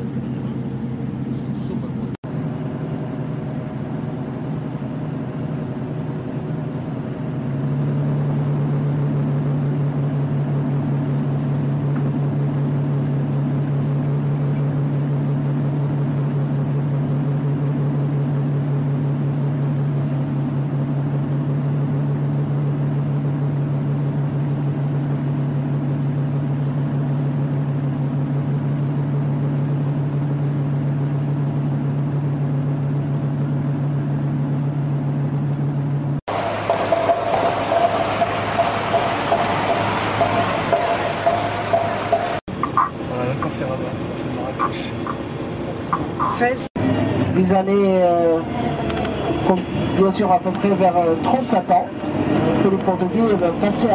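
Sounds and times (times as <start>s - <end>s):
ship machinery hum: 0.0s - 53.9s.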